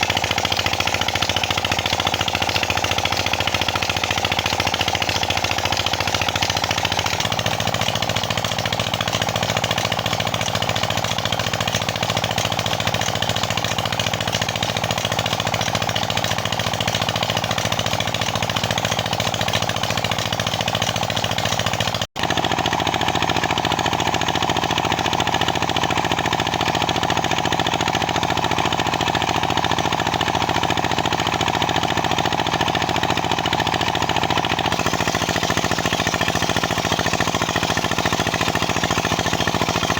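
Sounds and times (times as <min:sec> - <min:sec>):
diesel engine chugging: 0:00.0 - 0:26.9, 0:27.6 - 0:39.9.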